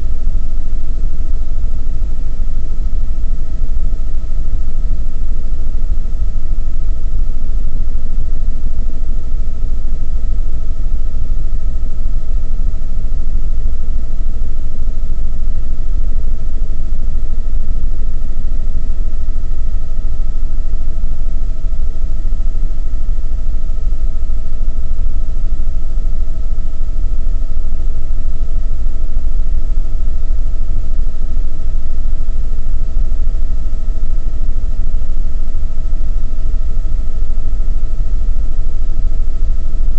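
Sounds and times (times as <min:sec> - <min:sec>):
constant high whine: 0:00.0 - 0:39.9.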